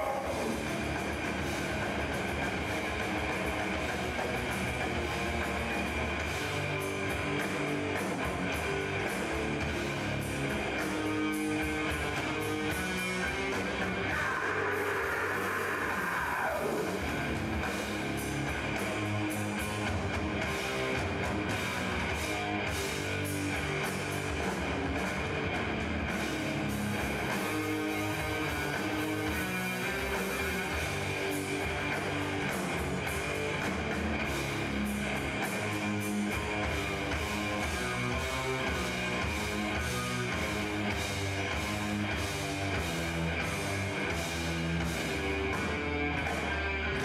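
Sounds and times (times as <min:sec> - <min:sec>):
death metal band playing: 0:00.0 - 0:47.0.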